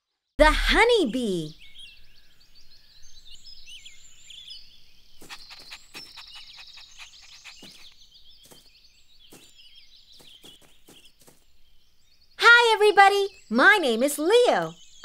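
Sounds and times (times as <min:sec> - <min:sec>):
small birds chirping: 0:00.4 - 0:15.0.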